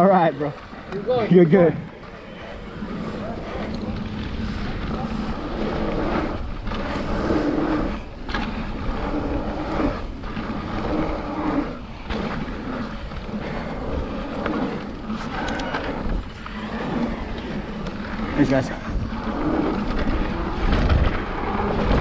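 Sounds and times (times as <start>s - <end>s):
bike rattling: 0.0s - 22.0s
mountain bike rolling on dirt: 0.0s - 22.0s
wind buffeting microphone: 0.0s - 22.0s.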